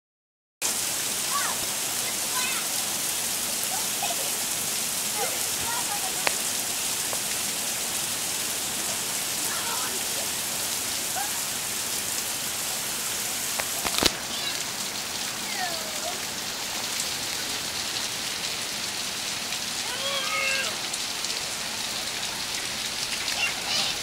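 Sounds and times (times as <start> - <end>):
heavy rain on grass and pavement: 0.6 - 24.0.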